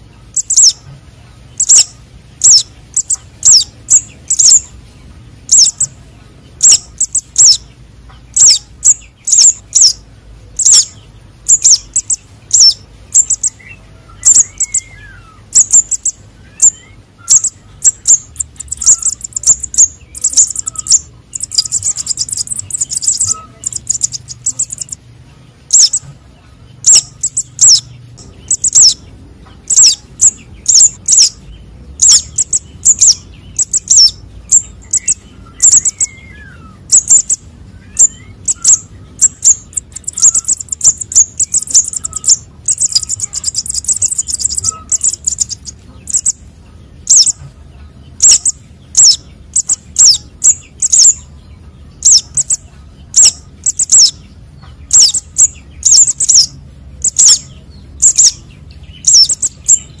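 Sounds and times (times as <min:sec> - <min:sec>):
young birds chirping: 0:00.0 - 1:00.0.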